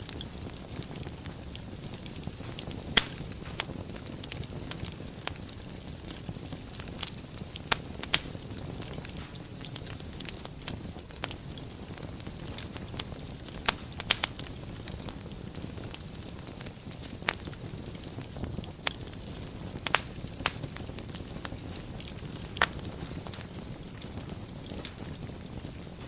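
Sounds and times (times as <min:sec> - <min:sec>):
fire crackling and popping: 0:00.0 - 0:26.0
fire rumbling: 0:00.0 - 0:26.0.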